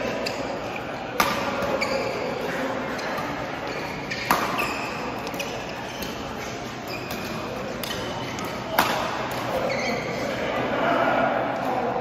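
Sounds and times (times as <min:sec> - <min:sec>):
shoe squeaks on court floor: 0:00.0 - 0:10.5
racket hitting shuttlecock: 0:00.1 - 0:09.8.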